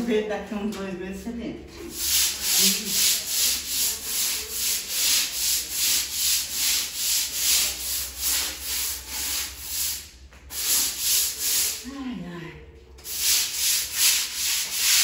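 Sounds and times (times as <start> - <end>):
scrub brush scrubbing wet tiles: 1.8 - 11.8, 13.0 - 15.0.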